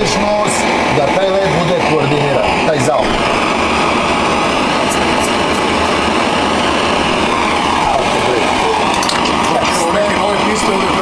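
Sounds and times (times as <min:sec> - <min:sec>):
simulated jet engine noise: 0:00.0 - 0:11.0.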